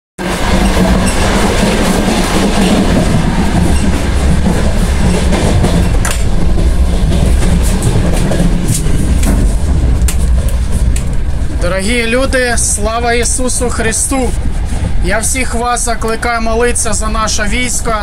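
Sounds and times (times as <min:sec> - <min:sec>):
train wheels rumbling on rails: 0:00.2 - 0:18.0.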